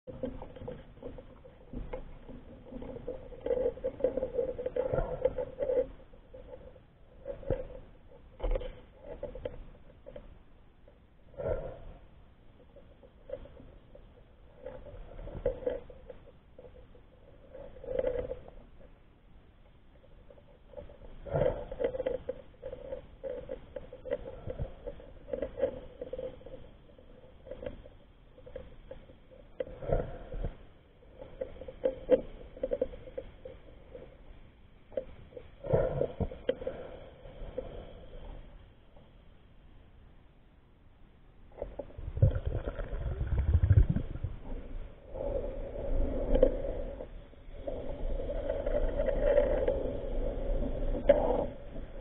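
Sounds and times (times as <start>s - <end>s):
crab clicking and scratching underwater: 0.1s - 39.4s, 41.4s - 52.0s.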